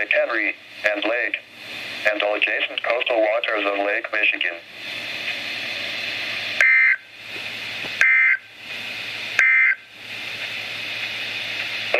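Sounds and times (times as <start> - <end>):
radio hiss: 0.0 - 11.9.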